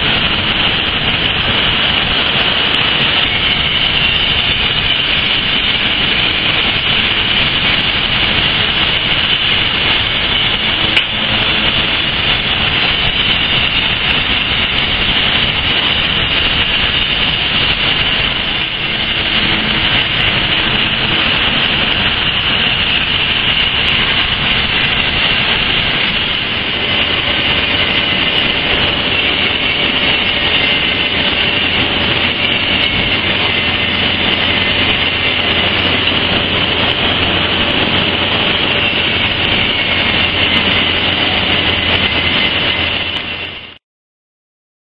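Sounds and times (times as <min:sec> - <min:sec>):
industrial machinery running: 0:00.0 - 0:43.8
low hum: 0:00.0 - 0:43.8
steady tone: 0:00.0 - 0:43.8.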